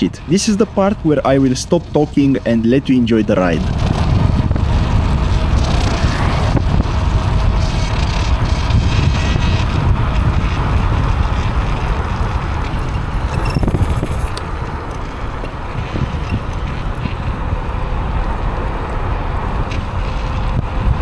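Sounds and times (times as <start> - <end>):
tyres rumbling on road: 0.0 - 21.0
wind buffeting microphone: 0.0 - 21.0.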